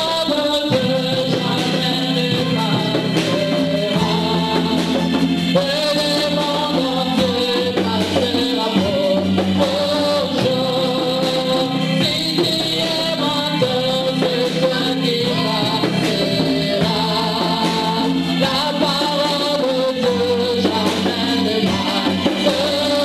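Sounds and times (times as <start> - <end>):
sustained musical accompaniment: 0.0 - 23.0
women singing gospel song: 0.0 - 23.0.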